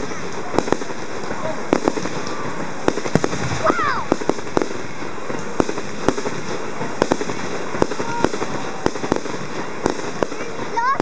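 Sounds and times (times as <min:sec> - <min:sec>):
fireworks bursting pops: 0:00.0 - 0:11.0
steady hiss: 0:00.0 - 0:11.0.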